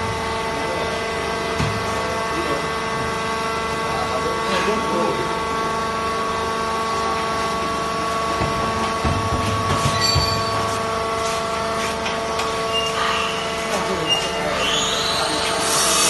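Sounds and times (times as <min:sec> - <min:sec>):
hydraulic power unit whining: 0:00.0 - 0:16.0.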